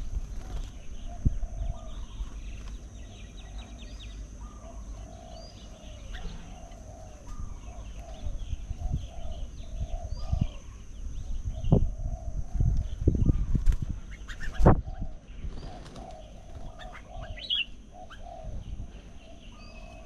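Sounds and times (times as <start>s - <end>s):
birds clucking: 0.0s - 10.7s, 11.5s - 20.0s
bird chirps: 0.4s - 13.5s, 14.1s - 20.0s.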